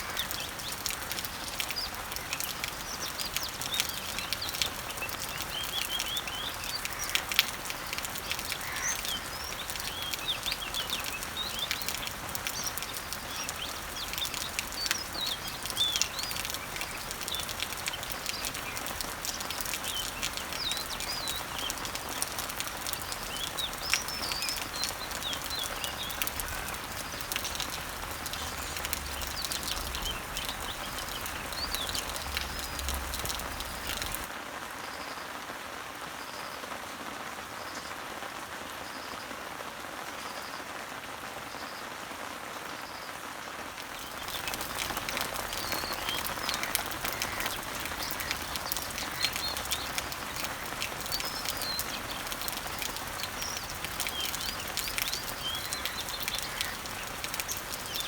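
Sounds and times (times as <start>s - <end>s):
small birds chirping: 0.0s - 34.3s, 43.8s - 58.0s
rain pattering on leaves: 0.0s - 58.0s.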